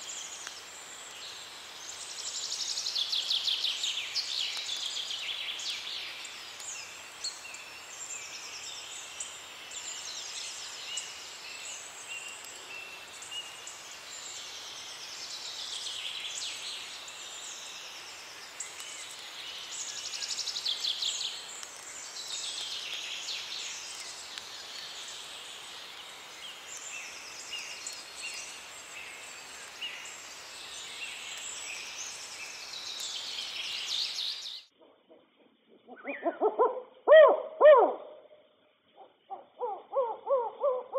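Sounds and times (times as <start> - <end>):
chorus of birdsong: 0.0 - 40.9.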